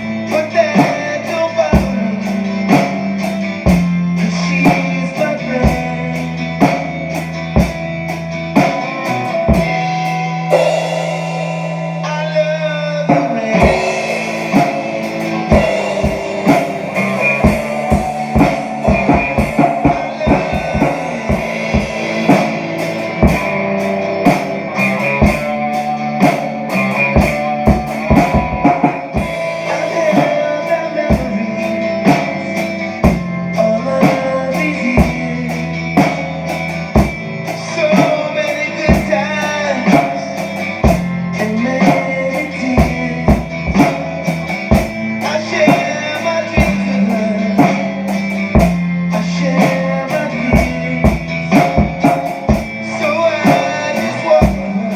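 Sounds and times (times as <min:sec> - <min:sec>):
bass guitar: 0:00.0 - 0:54.9
drum kit: 0:00.0 - 0:54.9
electric guitar: 0:00.0 - 0:54.9.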